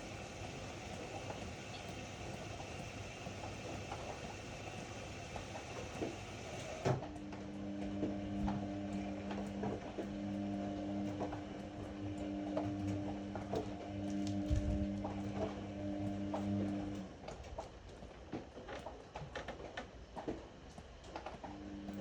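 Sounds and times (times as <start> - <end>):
washer-dryer running: 0.0 - 22.0.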